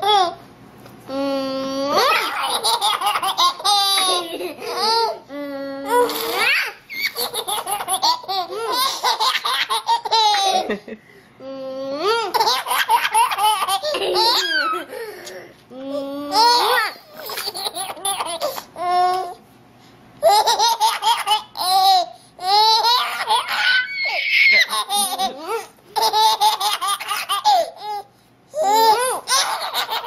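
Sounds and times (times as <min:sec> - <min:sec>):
baby laughing: 0:01.8 - 0:10.8, 0:12.0 - 0:15.0, 0:16.2 - 0:19.4, 0:20.2 - 0:30.0.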